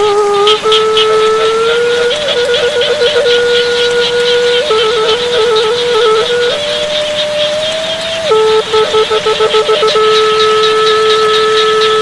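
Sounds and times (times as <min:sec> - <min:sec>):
free-reed horn playing: 0:00.0 - 0:12.0
high-pitched hiss: 0:00.0 - 0:12.0.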